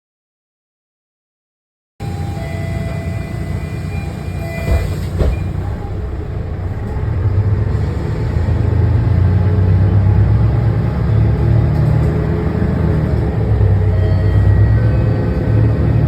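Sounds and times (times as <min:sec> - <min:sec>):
vehicle rumbling: 0:02.0 - 0:16.0.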